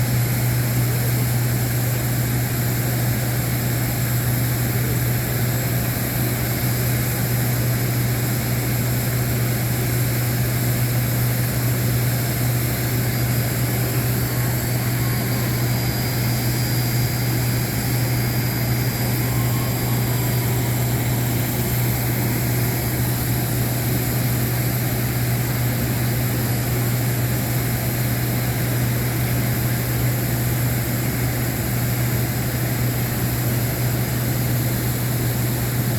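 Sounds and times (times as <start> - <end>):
airliner engine and airflow drone: 0.0 - 35.9.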